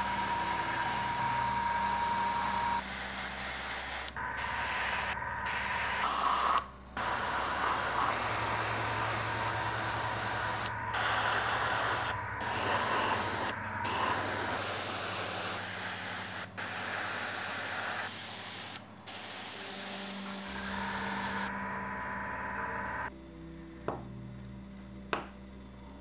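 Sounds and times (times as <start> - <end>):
airbrush spraying hiss: 0.0 - 21.5.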